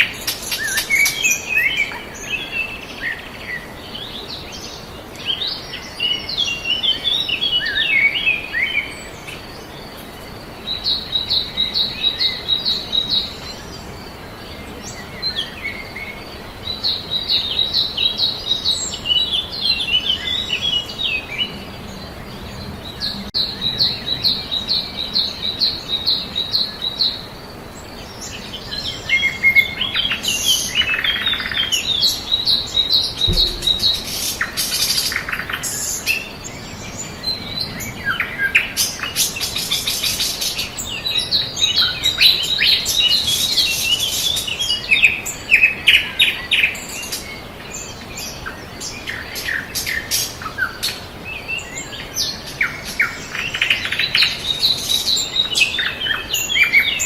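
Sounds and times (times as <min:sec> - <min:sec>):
songbirds singing: 0:00.0 - 0:57.0
steady background hiss: 0:00.0 - 0:57.0.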